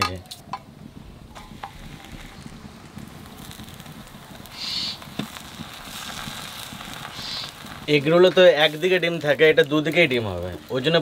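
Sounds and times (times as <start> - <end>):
food sizzling on a hot pan: 0.4 - 11.0.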